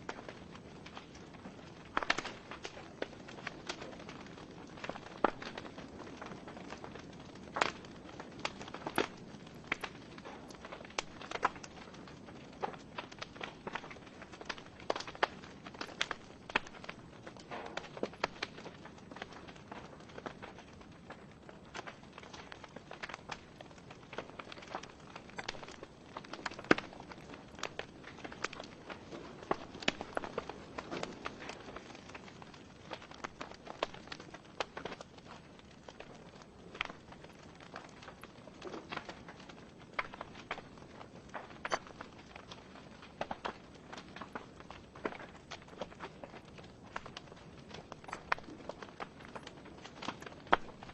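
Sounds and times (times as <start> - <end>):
low fire hiss: 0.0 - 50.9
wood fire crackling and popping: 0.0 - 50.9.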